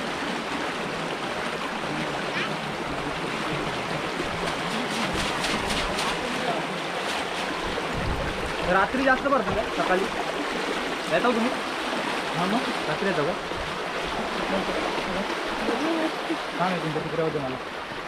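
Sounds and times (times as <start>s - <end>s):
water rushing through channel: 0.0s - 18.0s
water splashing: 0.0s - 18.0s.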